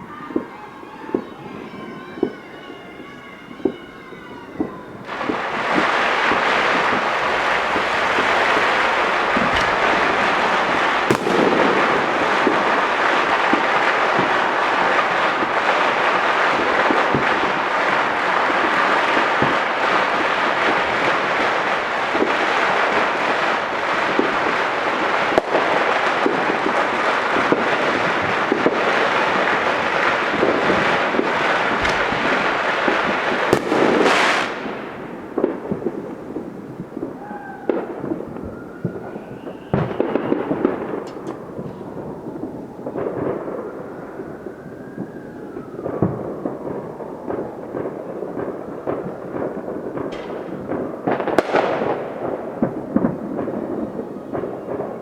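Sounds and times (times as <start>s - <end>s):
firecrackers crackling: 0.0s - 55.0s
fireworks pops and bangs: 0.0s - 55.0s
fireworks whistling: 0.0s - 55.0s.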